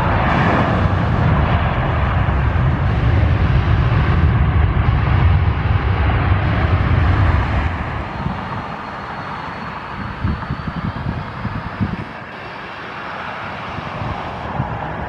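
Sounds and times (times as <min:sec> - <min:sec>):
jet engines rumbling: 0:00.0 - 0:15.0
faint high whine: 0:01.8 - 0:15.0.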